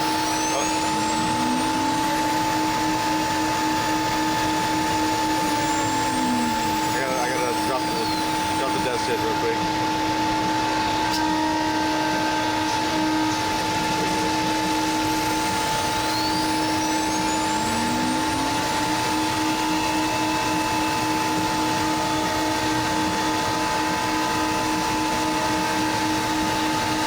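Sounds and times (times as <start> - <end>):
cnc router running: 0.0 - 27.0
faint whine: 0.0 - 27.0.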